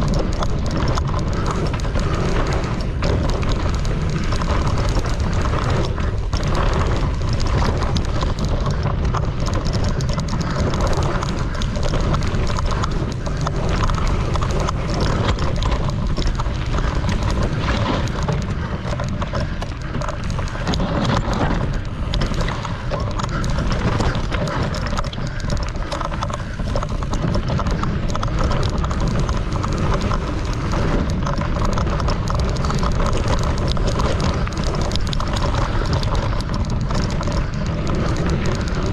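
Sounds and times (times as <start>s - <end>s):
bike rattling and knocking: 0.0s - 38.9s
bike tyre rumble: 0.0s - 38.9s
wind buffeting microphone: 0.0s - 38.9s.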